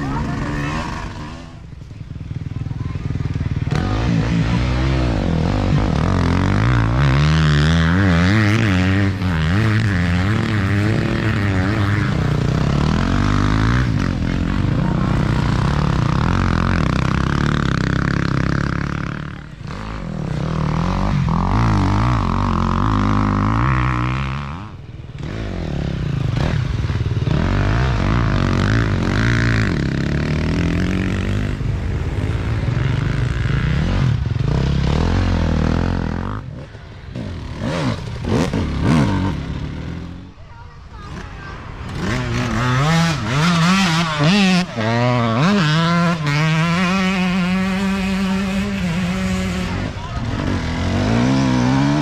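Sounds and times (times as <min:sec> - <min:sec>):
dirt bike engines revving: 0:00.0 - 0:52.0.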